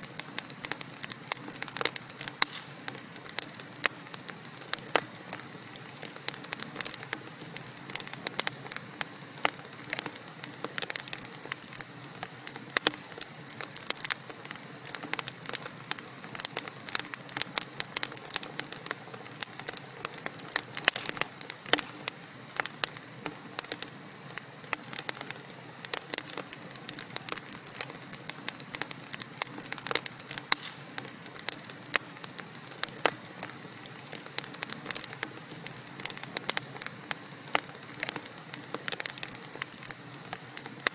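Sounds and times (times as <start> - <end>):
hiss of burning logs: 0.0 - 40.9
wood fire crackling: 0.0 - 40.9.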